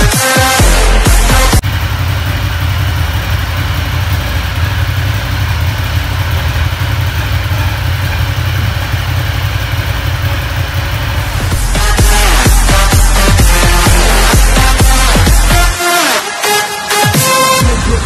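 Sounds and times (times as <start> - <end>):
motorcycle engine idling: 0.0 - 15.8.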